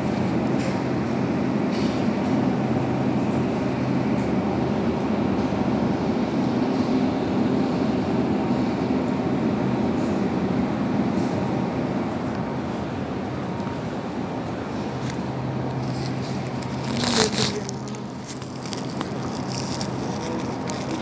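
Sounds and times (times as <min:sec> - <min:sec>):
supermarket background rumble: 0:00.0 - 0:21.0.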